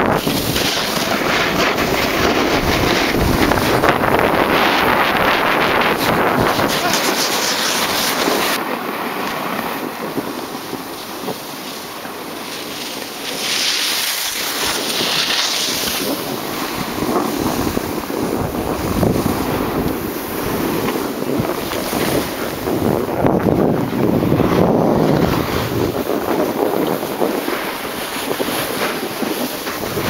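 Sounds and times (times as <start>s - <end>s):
skis sliding over snow: 0.0s - 30.0s
wind buffeting microphone: 0.0s - 30.0s.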